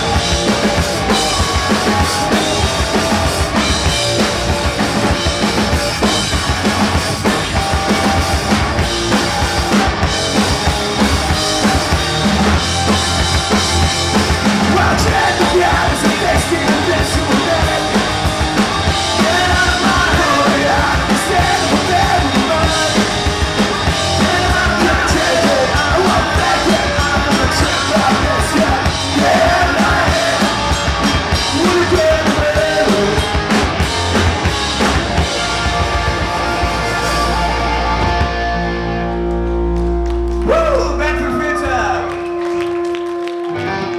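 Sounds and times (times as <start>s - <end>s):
drum kit: 0.0s - 43.2s
rock band playing: 0.0s - 43.9s.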